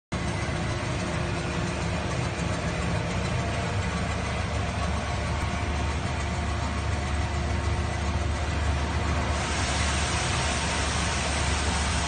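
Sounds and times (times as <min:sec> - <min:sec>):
rice milling machine humming: 0:00.1 - 0:12.0.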